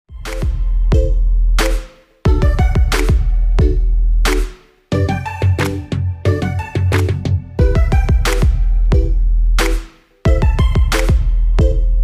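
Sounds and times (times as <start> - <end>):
electronic music with heavy drum beat: 0.1 - 12.0.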